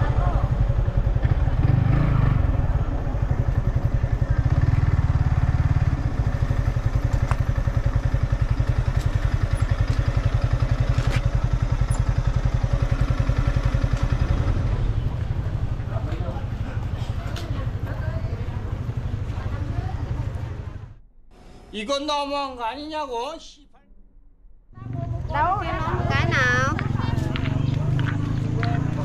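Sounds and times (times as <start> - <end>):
motorcycle engine running: 0.0 - 21.0, 24.7 - 29.0.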